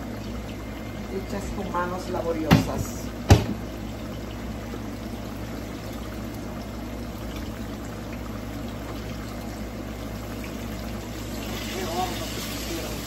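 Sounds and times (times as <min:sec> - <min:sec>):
low steady hum: 0:00.0 - 0:13.0
plantain frying in hot oil: 0:00.0 - 0:13.0.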